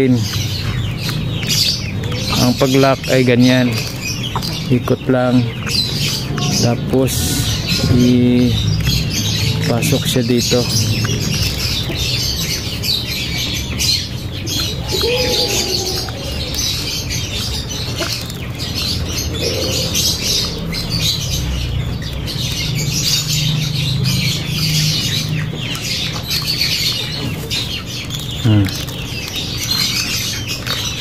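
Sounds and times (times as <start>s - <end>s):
birds chirping: 0.0s - 31.0s
short low bird calls: 0.0s - 31.0s.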